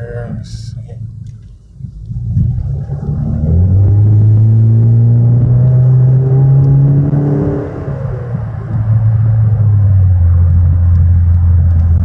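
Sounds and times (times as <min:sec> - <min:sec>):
car engine drone accelerating: 0:00.0 - 0:12.0.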